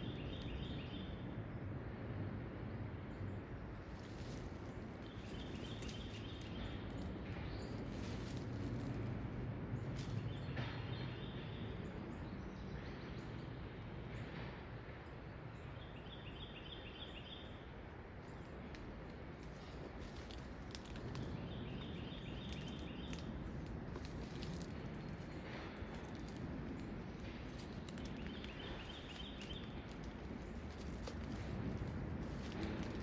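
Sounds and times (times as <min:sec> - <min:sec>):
low background noise: 0:00.0 - 0:33.0.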